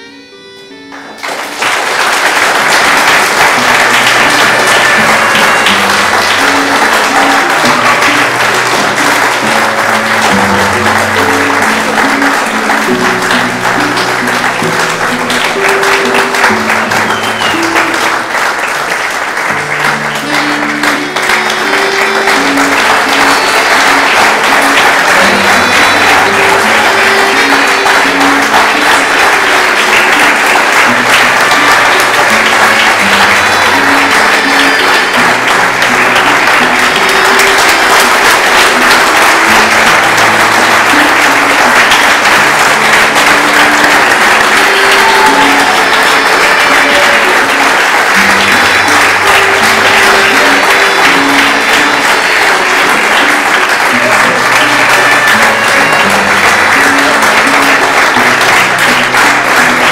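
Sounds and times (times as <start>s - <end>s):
music with melody and bass: 0.0s - 1.5s, 2.6s - 59.9s
audience applause: 0.0s - 59.9s.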